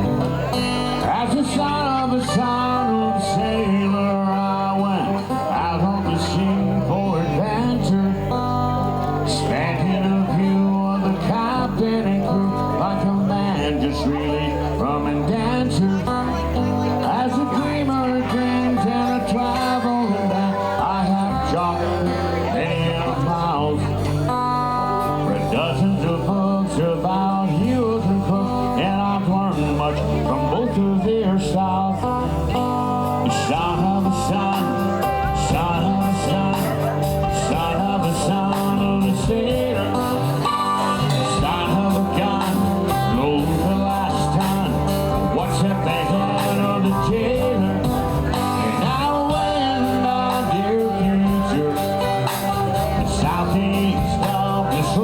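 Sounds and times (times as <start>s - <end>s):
country band with plucked strings: 0.0s - 55.0s.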